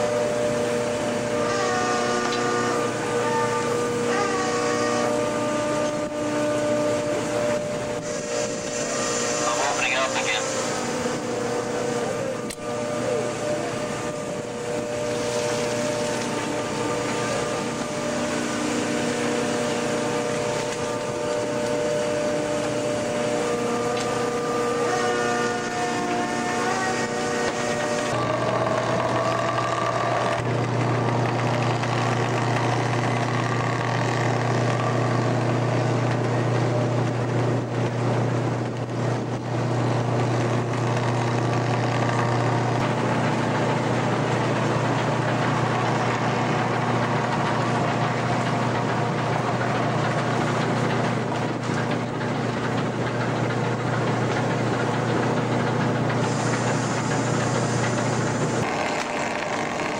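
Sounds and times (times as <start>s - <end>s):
ship engine drone: 0.0s - 59.9s.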